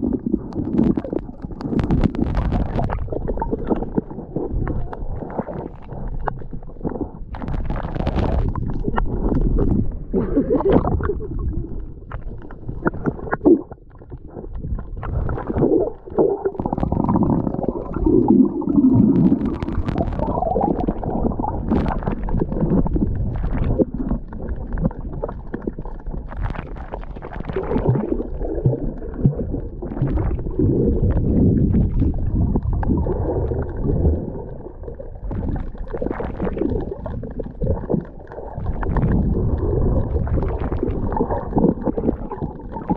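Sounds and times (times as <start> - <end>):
underwater rumble and gurgling: 0.0 - 42.9.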